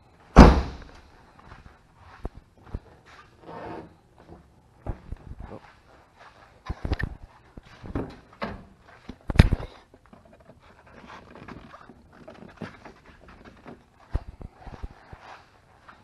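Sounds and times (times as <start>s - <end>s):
footsteps: 0.4s - 16.0s.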